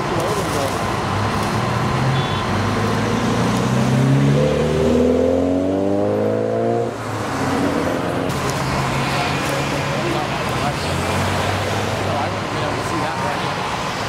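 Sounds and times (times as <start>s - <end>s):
road traffic hum: 0.0s - 14.0s
vehicle engine accelerating: 0.6s - 13.5s.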